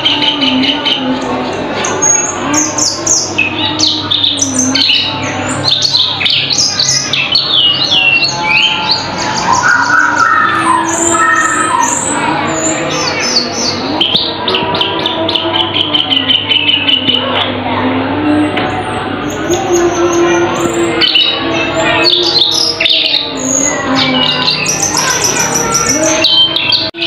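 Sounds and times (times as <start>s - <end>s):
songbird singing: 0.0s - 17.6s, 18.3s - 27.0s.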